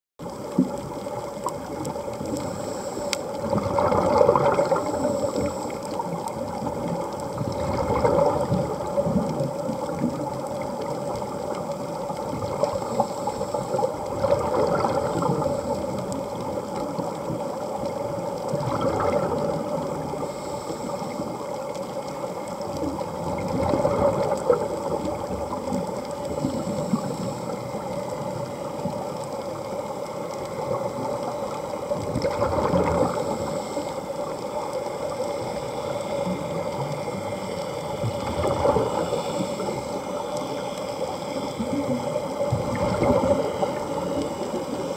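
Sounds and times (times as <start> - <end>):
underwater bubbles gurgling: 0.2 - 44.9.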